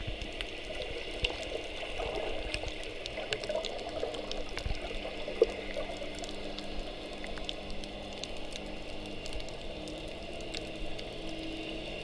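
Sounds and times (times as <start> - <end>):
small clicks and bubble pops: 0.0 - 11.1
muffled underwater water rush: 0.0 - 12.0.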